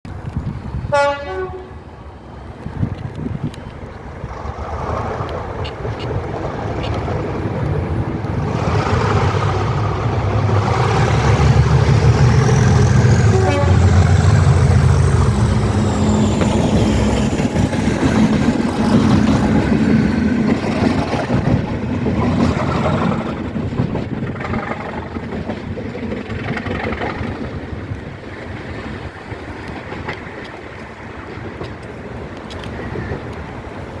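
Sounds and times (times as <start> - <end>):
diesel locomotive engine working hard: 0.1 - 34.0.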